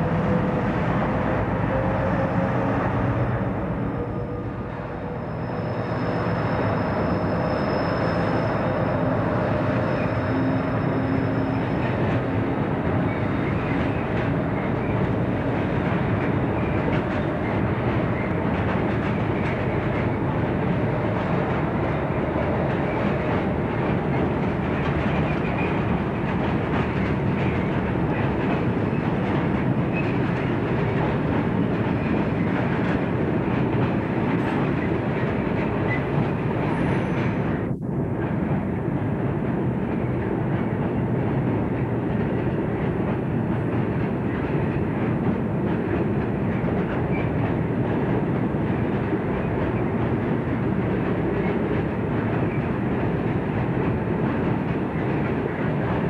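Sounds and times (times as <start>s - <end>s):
diesel locomotive engine whine: 0.0s - 56.0s
train wheels rumbling on rails: 0.0s - 56.0s.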